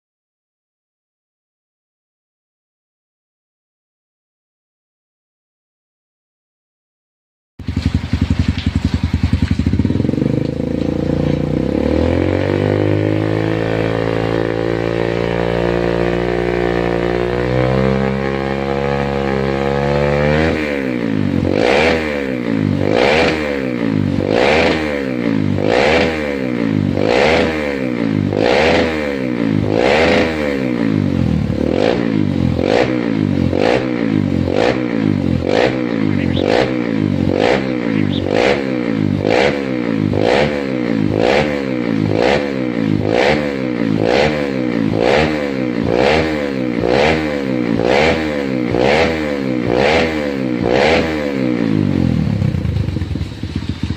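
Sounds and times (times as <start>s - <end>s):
motorcycle engine revving: 7.6s - 53.9s.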